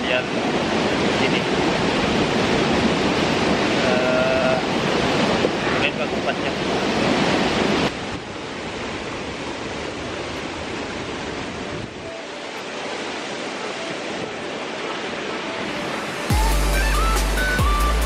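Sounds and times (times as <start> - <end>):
waterfall and stream rushing: 0.0 - 18.0.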